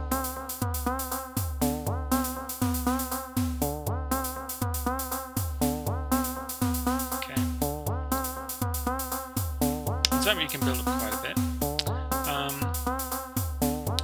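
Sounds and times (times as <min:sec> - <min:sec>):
synthesized drum kit loop: 0:00.0 - 0:14.0.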